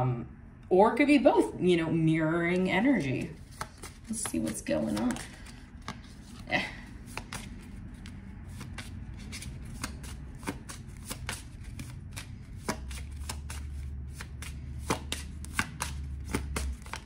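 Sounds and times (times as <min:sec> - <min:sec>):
low steady hum: 0:00.0 - 0:17.0
cards being shuffled: 0:02.6 - 0:17.0.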